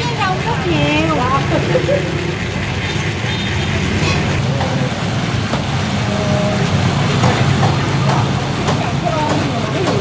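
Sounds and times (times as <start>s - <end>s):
street traffic hum: 0.0s - 10.0s.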